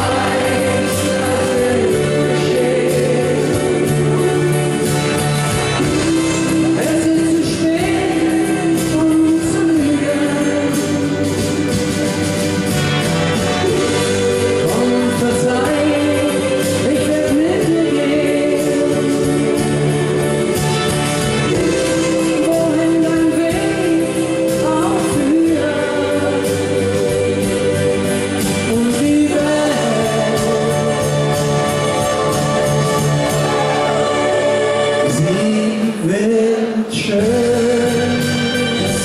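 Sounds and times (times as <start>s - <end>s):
man singing pop song over pa: 0.0s - 12.4s, 13.6s - 20.8s, 21.5s - 39.0s
backing band: 0.0s - 39.0s.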